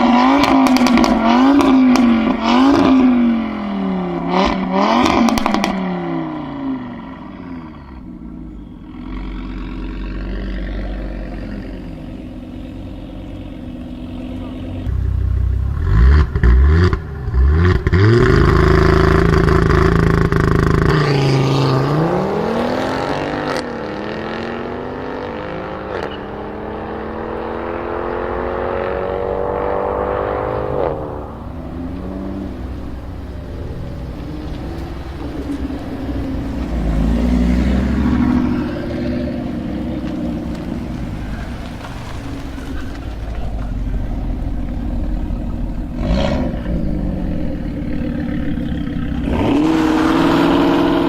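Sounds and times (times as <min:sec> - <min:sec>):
exhaust cracks: 0:00.0 - 0:23.9, 0:24.5 - 0:51.0
car engine revving: 0:00.0 - 0:51.0.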